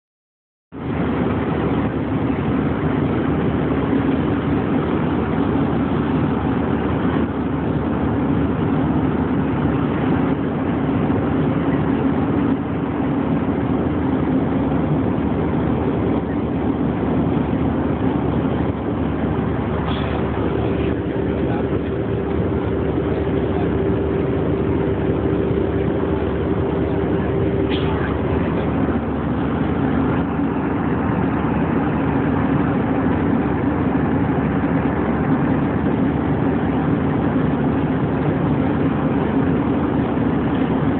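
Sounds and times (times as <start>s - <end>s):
aircraft cabin engine roar: 0.7s - 40.9s
higher steady hum: 0.8s - 40.9s
low hum: 0.8s - 40.9s.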